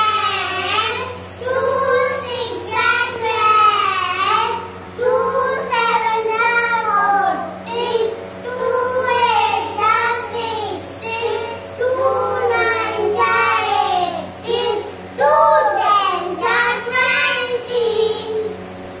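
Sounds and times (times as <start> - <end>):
child singing a rhyme: 0.0 - 18.6
steady low hum: 0.0 - 19.0.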